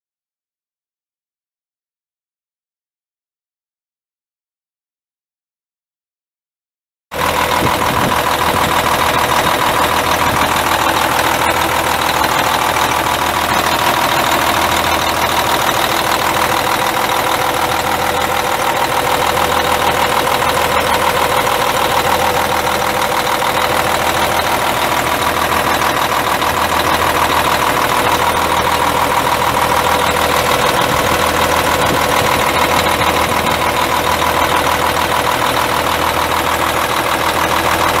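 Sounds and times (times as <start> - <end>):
diesel truck engine idling: 7.2 - 38.0.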